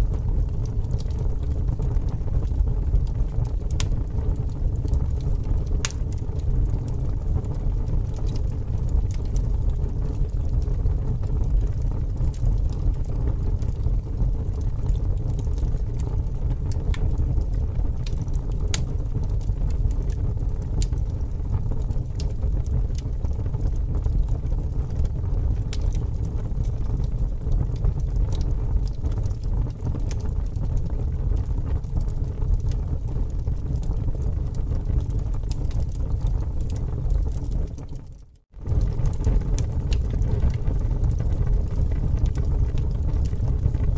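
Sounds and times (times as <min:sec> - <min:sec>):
bonfire crackling and popping: 0:00.0 - 0:43.9
fire low rumble: 0:00.0 - 0:43.9.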